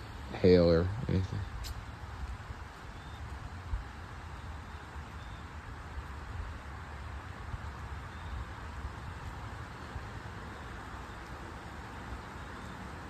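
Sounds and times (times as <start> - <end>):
wind rustling tree leaves: 0.0 - 13.0.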